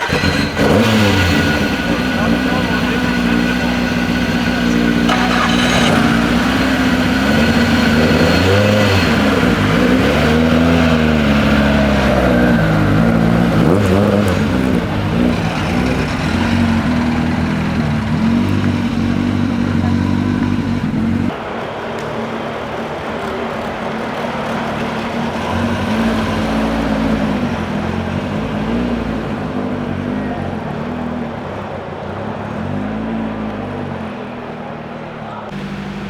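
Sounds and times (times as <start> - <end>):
rally car engine revving hard: 0.0 - 21.4, 24.1 - 36.0.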